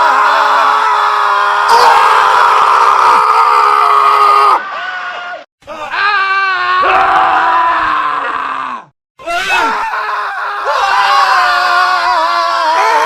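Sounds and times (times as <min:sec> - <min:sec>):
men screaming: 0:00.0 - 0:13.0.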